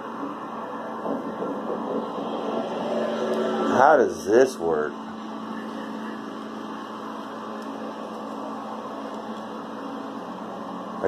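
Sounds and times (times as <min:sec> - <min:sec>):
whirring background hum: 0:00.0 - 0:11.0.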